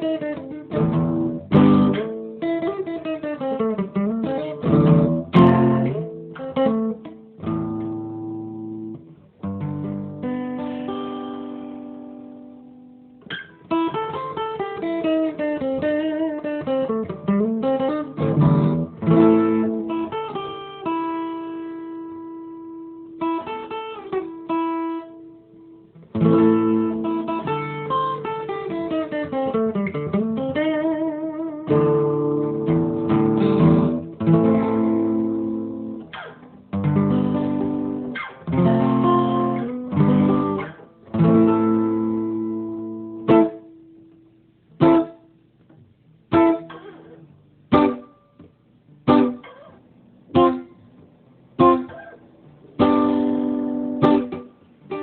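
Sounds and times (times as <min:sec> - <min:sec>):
acoustic guitar playing: 0:00.0 - 0:45.5, 0:46.2 - 0:55.0.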